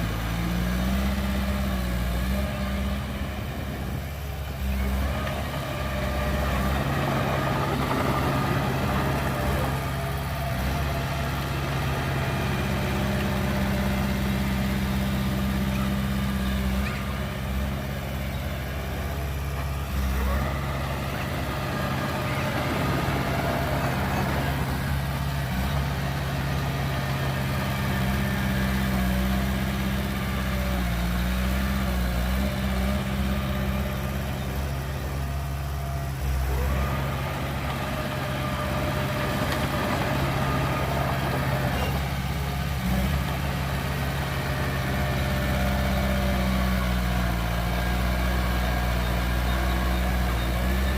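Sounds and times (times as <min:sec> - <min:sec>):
heavy diesel machinery engines: 0:00.0 - 0:50.9.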